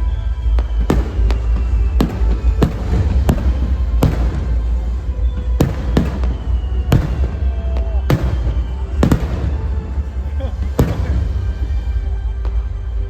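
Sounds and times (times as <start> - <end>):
fireworks bangs: 0.0 - 13.0
music with strong bass: 0.0 - 13.0.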